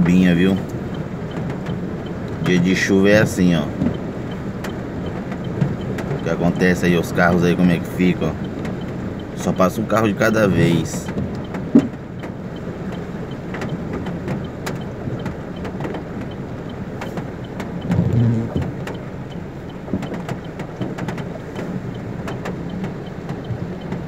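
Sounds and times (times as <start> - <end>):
car engine running: 0.0 - 24.0
heavy rain noise: 0.0 - 24.0
raindrops ticking on roof: 0.0 - 24.0.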